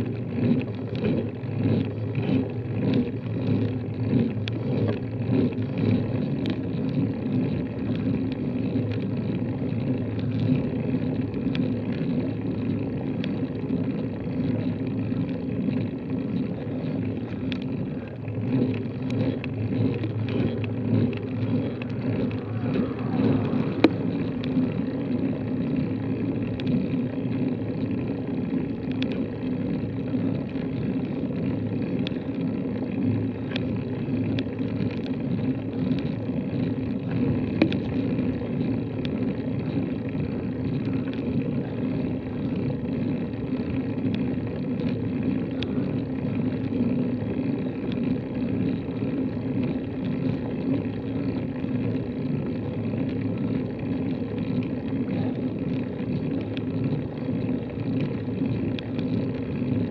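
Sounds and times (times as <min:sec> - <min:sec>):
faint bicycle clicks: 0:00.0 - 0:59.9
steady low rumble: 0:00.0 - 0:59.9.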